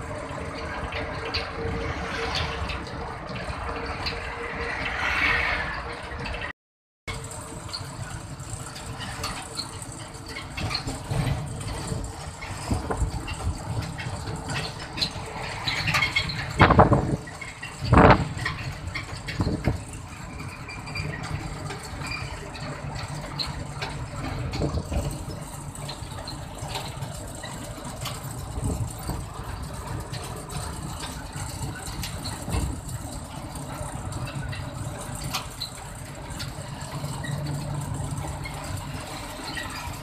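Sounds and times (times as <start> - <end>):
vehicle engine and road rumble: 0.0 - 40.0.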